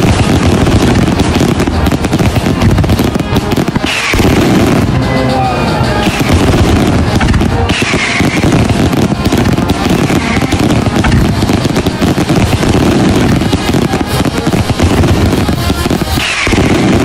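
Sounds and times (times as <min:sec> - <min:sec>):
band playing: 0:00.0 - 0:17.0
firecrackers crackling: 0:00.0 - 0:17.0.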